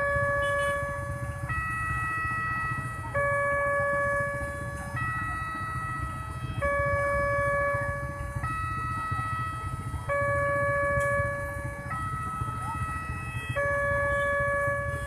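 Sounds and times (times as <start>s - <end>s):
idling traffic rumble: 0.0s - 15.0s
two-tone crossing siren: 0.0s - 15.0s.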